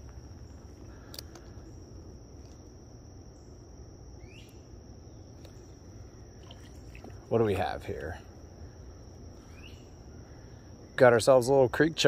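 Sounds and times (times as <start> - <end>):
insects trilling: 0.0 - 12.0
low outdoor rumble: 0.0 - 12.0.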